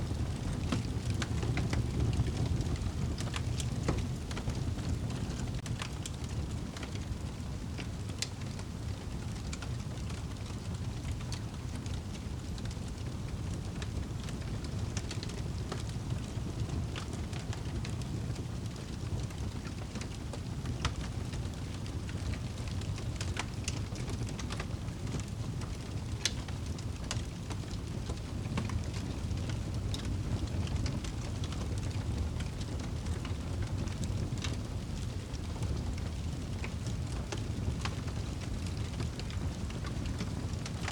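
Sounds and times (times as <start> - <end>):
fire flames rumbling: 0.0 - 40.9
fire popping and crackling: 0.0 - 40.9.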